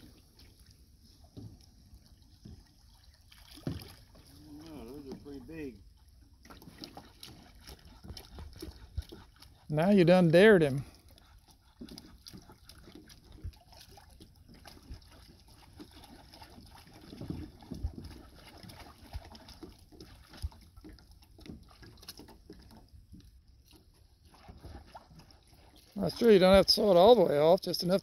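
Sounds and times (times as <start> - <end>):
water sloshing and splashing: 0.0 - 28.0.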